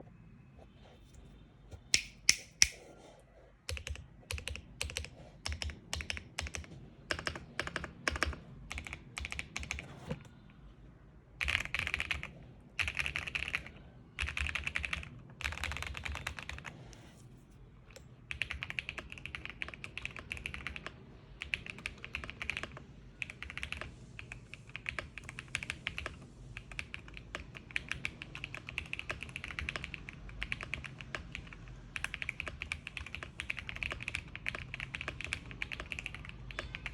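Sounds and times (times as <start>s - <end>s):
mechanical keyboard typing: 3.7s - 9.9s, 11.4s - 16.7s, 18.3s - 36.9s.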